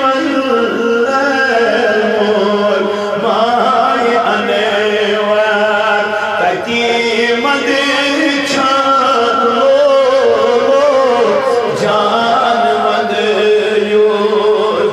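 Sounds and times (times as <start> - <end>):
man singing into a microphone: 0.0 - 14.9.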